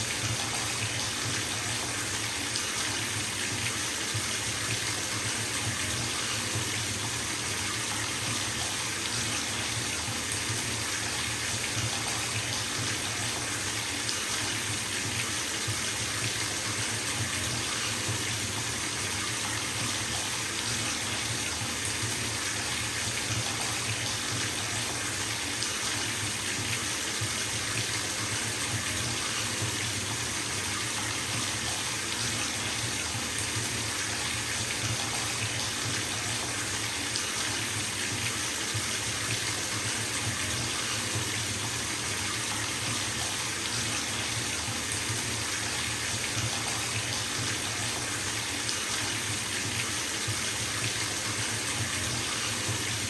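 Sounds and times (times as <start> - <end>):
bathtub tap running: 0.0 - 53.0.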